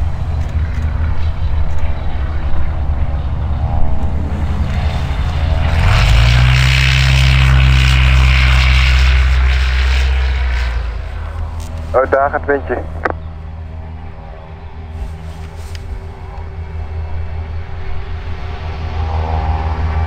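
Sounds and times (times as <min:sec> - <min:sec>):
propeller aircraft engine droning: 0:00.0 - 0:20.0.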